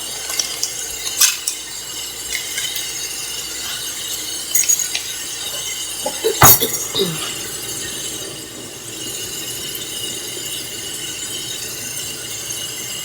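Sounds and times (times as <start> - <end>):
dishes and utensils clinking: 0.0 - 13.0.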